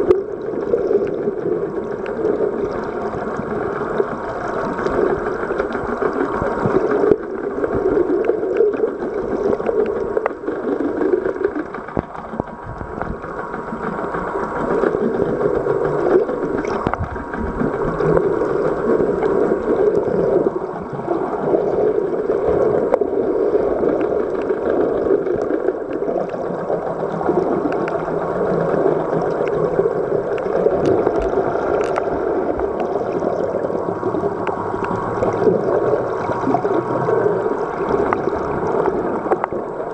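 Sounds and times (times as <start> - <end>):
faint steady hum: 0.0 - 39.9
underwater rushing water: 0.0 - 39.9
faint clicks: 0.1 - 20.8, 23.8 - 39.9.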